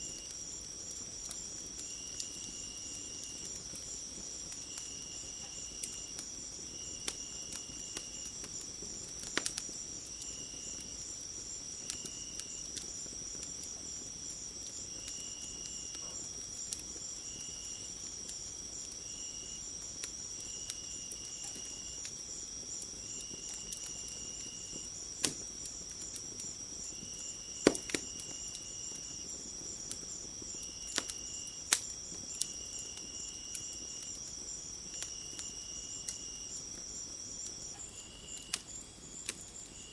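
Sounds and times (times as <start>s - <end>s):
fire crackling and popping: 0.0s - 39.9s
insects chirring: 0.0s - 39.9s.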